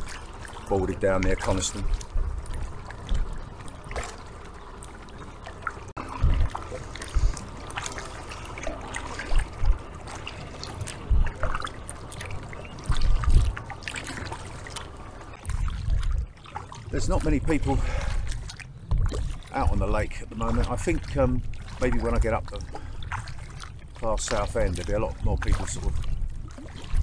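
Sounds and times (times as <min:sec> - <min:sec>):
paddle strokes splashing water: 0:00.0 - 0:27.0
wind rumbling on microphone: 0:00.0 - 0:27.0.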